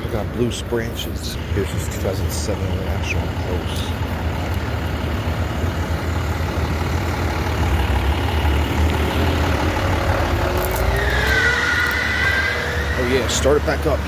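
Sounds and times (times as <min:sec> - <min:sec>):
heavy engine idling: 0:00.0 - 0:14.0.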